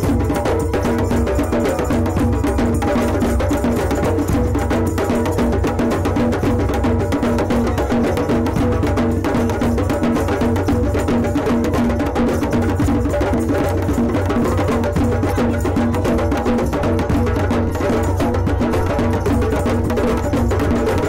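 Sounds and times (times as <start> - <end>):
hand drums playing rhythm: 0.0 - 21.0.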